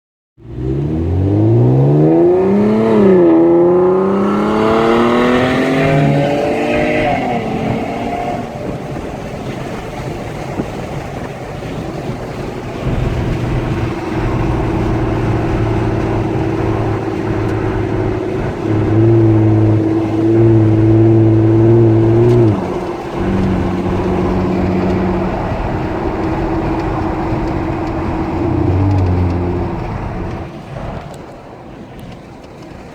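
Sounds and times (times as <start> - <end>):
car exhaust revving: 0.4 - 8.5, 12.0 - 30.7
car exhaust droning: 0.4 - 8.8, 11.6 - 31.0.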